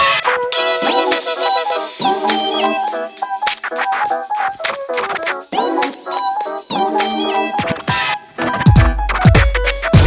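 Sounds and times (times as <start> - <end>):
electronic music with synth melody: 0.0 - 10.0.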